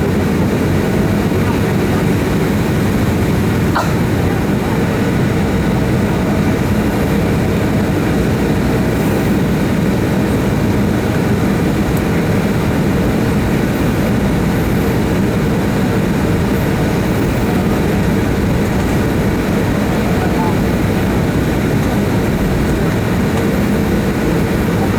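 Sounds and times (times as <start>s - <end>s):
jet engine cabin rumble: 0.0s - 24.9s.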